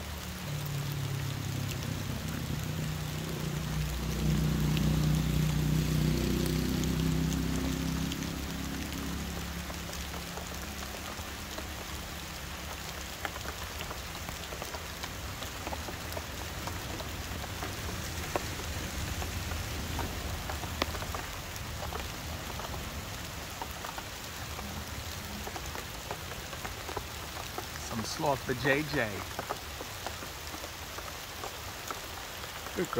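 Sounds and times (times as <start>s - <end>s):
rain on leaves: 0.0s - 32.9s
raindrops ticking: 0.0s - 32.9s.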